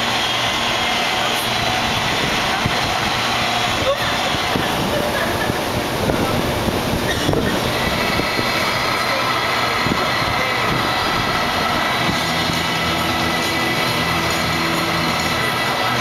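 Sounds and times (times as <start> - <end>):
wind tunnel fans rushing air: 0.0 - 16.0.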